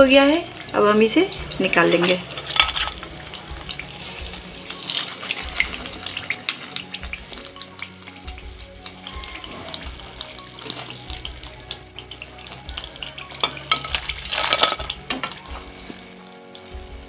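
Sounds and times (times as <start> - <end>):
oil crackling and popping: 0.0 - 17.0
slices frying in hot oil: 0.0 - 17.0.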